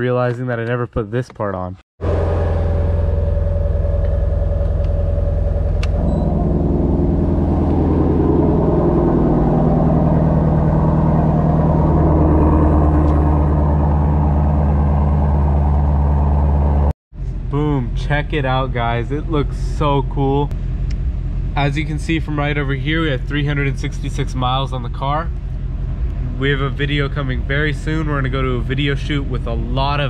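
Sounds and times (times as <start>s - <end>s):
car engine idling: 2.0s - 30.0s.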